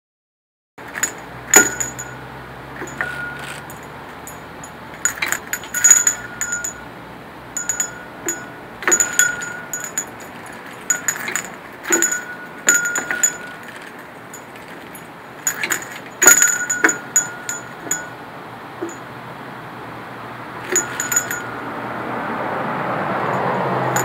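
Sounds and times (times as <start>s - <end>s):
small brass bell clanging: 0.8s - 19.1s, 20.6s - 21.7s, 23.3s - 24.0s.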